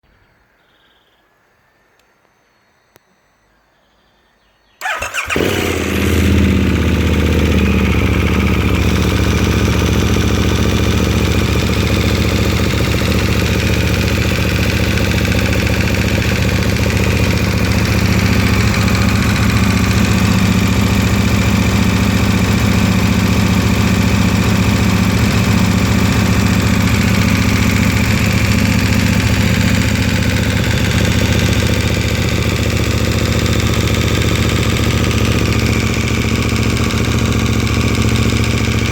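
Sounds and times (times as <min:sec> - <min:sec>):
motorcycle engine idling: 0:04.8 - 0:38.9.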